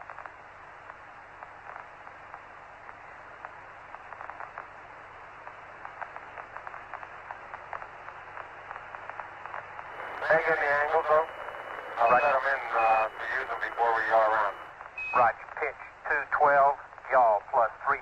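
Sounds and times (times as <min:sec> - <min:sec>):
radio crackles and clicks: 0:00.1 - 0:18.0
radio hiss: 0:01.4 - 0:18.0.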